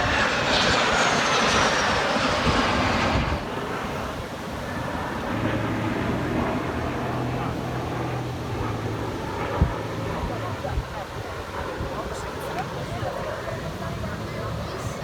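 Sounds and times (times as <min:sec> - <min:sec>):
aircraft fly-by with high whine: 0:00.0 - 0:15.0.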